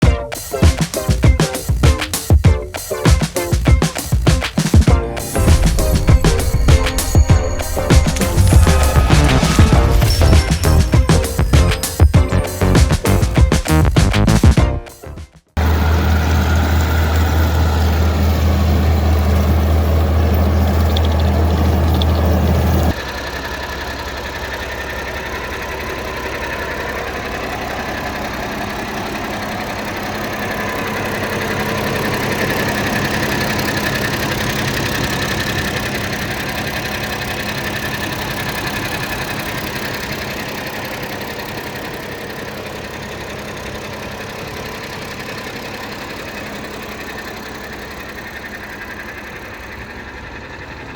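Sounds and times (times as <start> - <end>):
diesel tractor engine idling: 5.2 - 13.4, 15.6 - 50.9.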